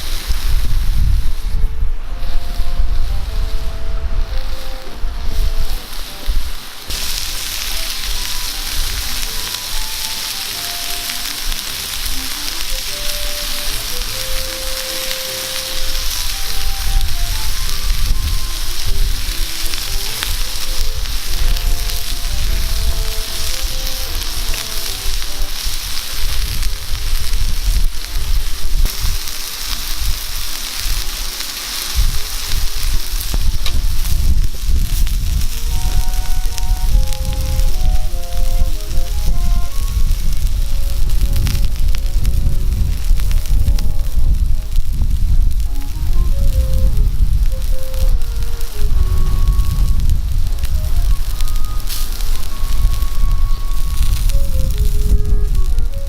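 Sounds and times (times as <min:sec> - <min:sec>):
food sizzling in frying pan: 0:00.0 - 0:56.0
low rumble: 0:00.0 - 0:56.0
wind buffeting microphone: 0:00.0 - 0:56.0.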